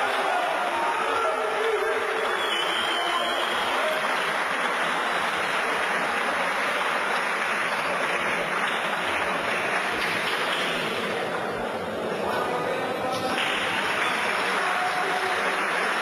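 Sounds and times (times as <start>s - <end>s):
crowd applauding: 0.0s - 11.6s, 13.2s - 16.0s.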